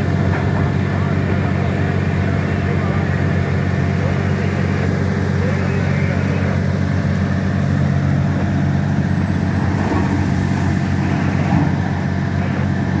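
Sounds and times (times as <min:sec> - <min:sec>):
heavy diesel engines droning: 0:00.0 - 0:13.0.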